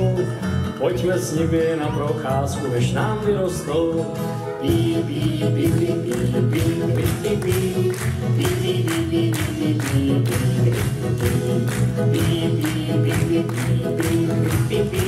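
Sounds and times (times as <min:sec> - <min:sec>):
upbeat instrumental music: 0:00.0 - 0:15.0.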